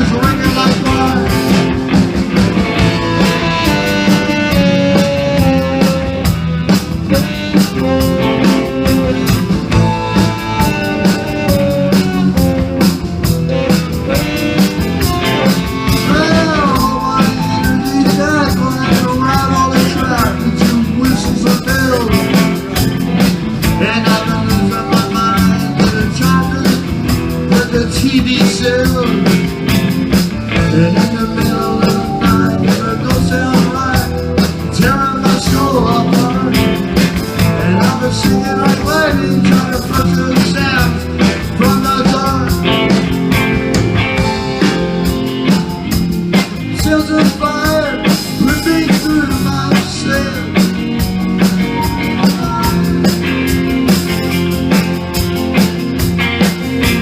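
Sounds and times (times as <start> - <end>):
electric guitar: 0.0 - 57.0
steady drum beat: 0.0 - 57.0.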